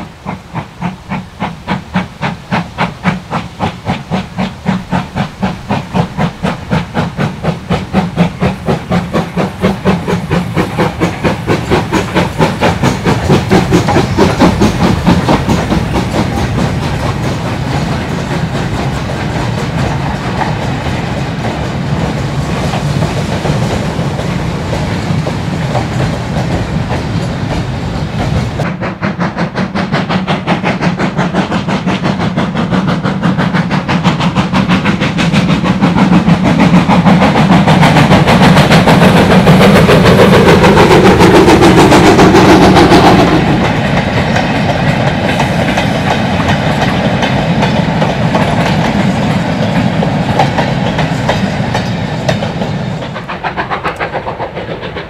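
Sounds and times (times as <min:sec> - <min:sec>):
steam locomotive exhaust beats: 0:00.0 - 0:55.0
wagons rattling over rail joints: 0:01.9 - 0:28.7, 0:30.1 - 0:55.0.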